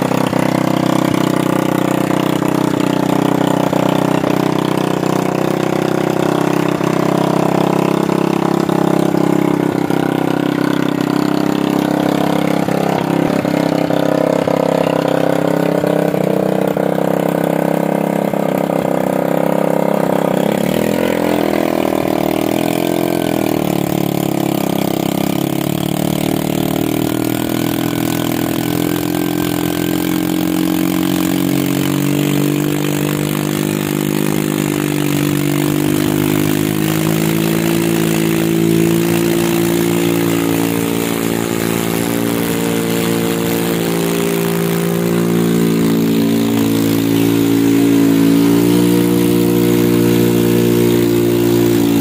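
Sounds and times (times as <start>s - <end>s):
diesel engine starting: 0.0s - 52.0s
small starter engine running: 0.0s - 52.0s.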